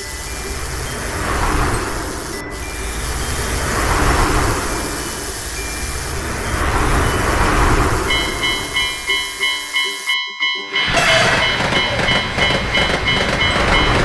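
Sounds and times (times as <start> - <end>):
level-crossing bell ringing: 0.0 - 14.0
train rumbling past: 0.0 - 14.0.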